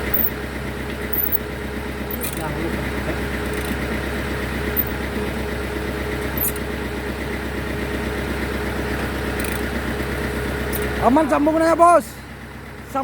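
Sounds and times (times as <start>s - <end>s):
sawmill engine humming: 0.0s - 13.0s.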